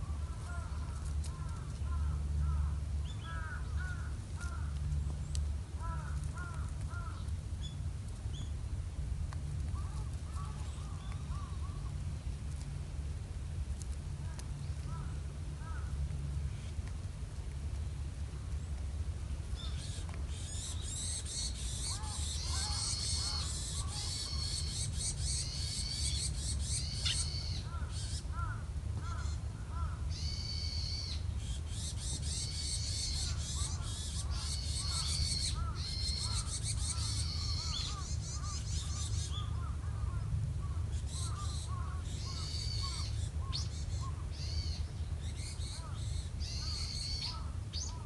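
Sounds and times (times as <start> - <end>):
birds chattering calls: 0.0 - 8.5, 9.7 - 12.0, 14.5 - 16.8, 18.6 - 48.0
low background rumble: 0.0 - 48.0.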